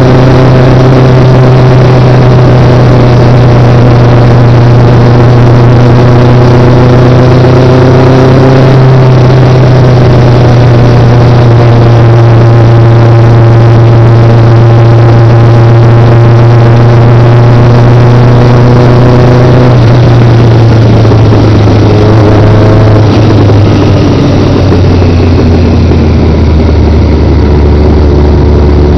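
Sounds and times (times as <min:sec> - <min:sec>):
motorcycle engine running: 0:00.0 - 0:28.9
road and wind noise: 0:00.0 - 0:28.9.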